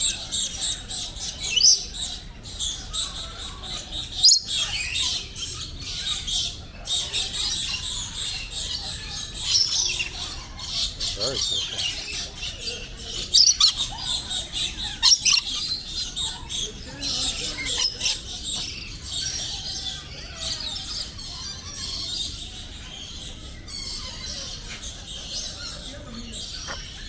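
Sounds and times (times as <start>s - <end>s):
parrots squawking: 0.0s - 2.0s, 7.1s - 27.0s
parrots chirping chorus: 0.0s - 27.0s.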